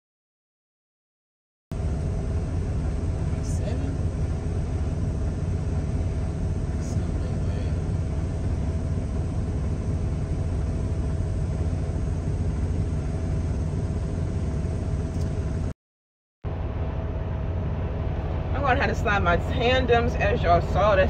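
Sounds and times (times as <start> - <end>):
faint steady hum: 1.8 - 15.7, 16.5 - 21.0
truck diesel engine rumbling: 1.8 - 15.7, 16.5 - 21.0.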